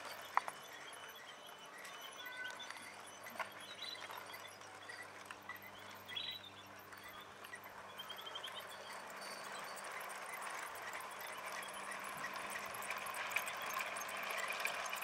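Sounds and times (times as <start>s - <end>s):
birds chirping: 0.0s - 15.0s
model train running: 0.0s - 15.0s.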